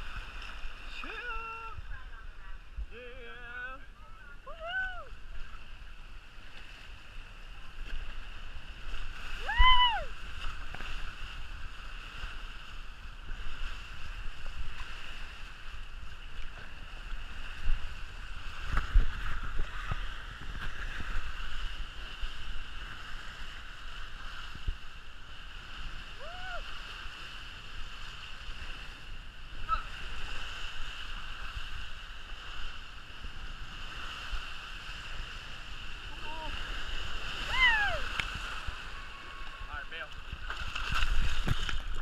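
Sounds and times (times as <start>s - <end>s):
water rushing and splashing: 0.0s - 42.0s.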